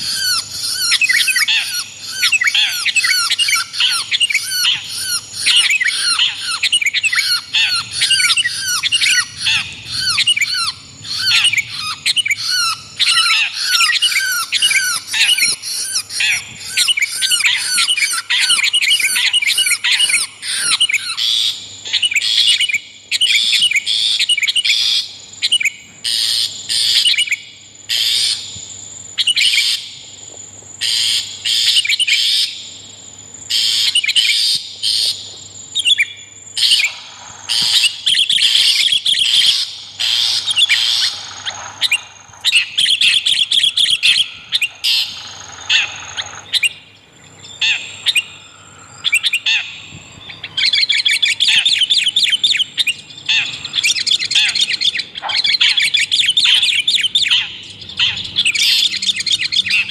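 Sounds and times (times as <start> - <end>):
bulbul calls: 0.0 - 28.4, 35.8 - 59.9.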